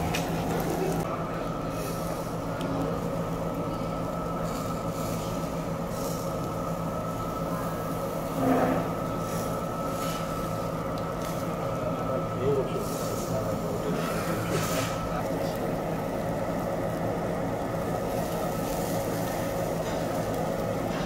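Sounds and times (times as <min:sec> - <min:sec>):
meat sizzling on a grill: 0:00.0 - 0:21.0
ventilation fan humming: 0:00.0 - 0:21.0.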